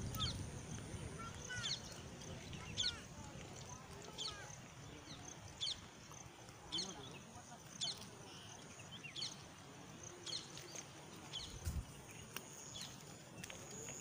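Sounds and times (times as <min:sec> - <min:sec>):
open-air background noise: 0:00.0 - 0:14.0.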